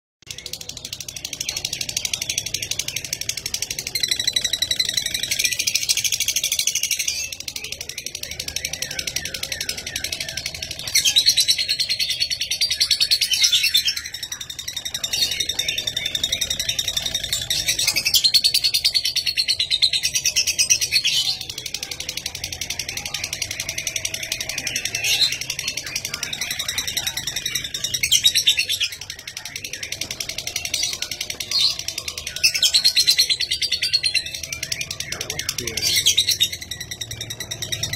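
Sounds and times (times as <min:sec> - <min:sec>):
lovebird chattering: 0:00.6 - 0:37.9.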